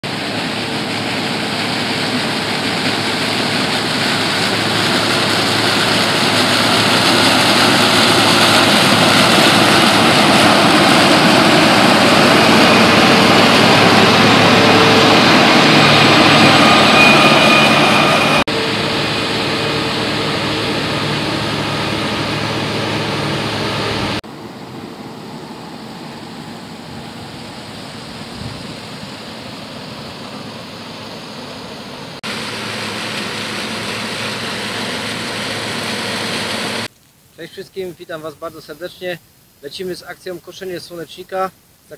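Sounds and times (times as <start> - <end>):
combine harvester machinery whining: 0.0 - 36.9.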